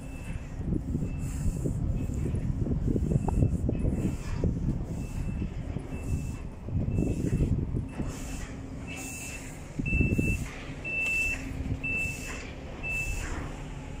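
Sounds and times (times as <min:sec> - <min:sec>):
truck engine rumble: 0:00.0 - 0:14.0
truck reverse alarm beeping: 0:00.0 - 0:14.0.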